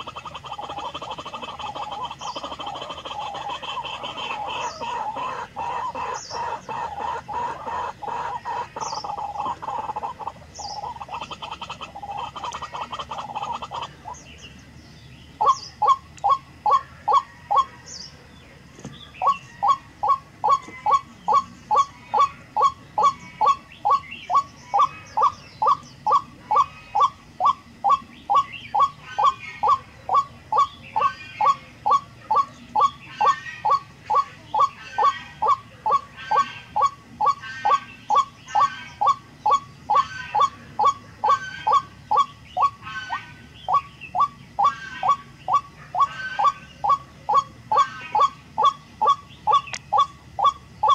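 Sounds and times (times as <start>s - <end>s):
waterhen calling: 0.0s - 14.5s, 15.3s - 17.9s, 18.8s - 50.9s
small birds chirping: 0.0s - 50.9s.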